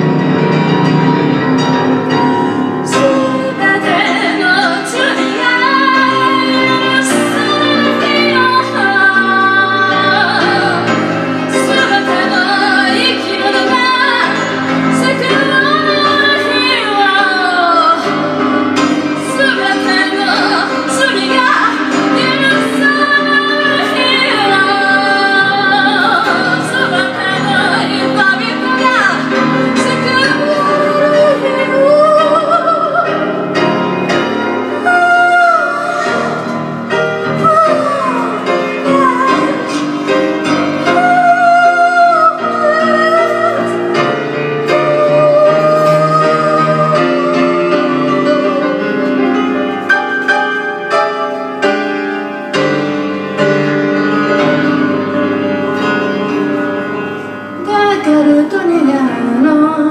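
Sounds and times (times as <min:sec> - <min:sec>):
piano chords: 0:00.0 - 0:59.9
woman singing: 0:02.4 - 0:33.8, 0:34.4 - 0:49.7, 0:57.6 - 0:59.9.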